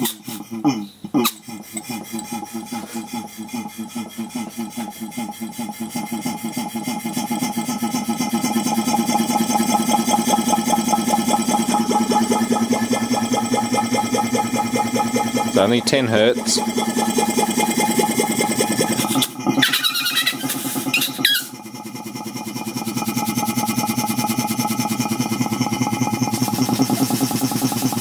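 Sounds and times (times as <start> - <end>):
compressor chugging pulse: 0.0 - 28.0.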